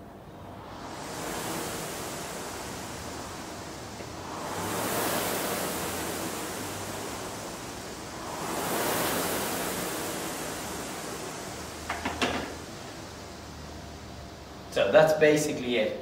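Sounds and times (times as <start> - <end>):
rowing machine flywheel whooshing: 0.0 - 14.7.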